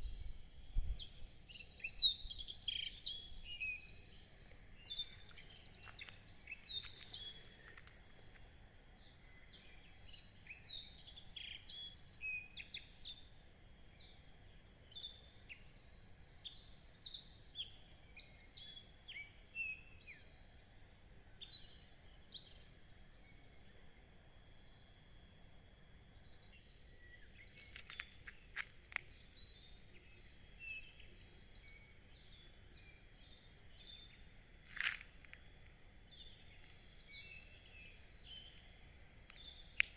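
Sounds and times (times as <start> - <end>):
wild birds singing and chirping: 0.0 - 39.9.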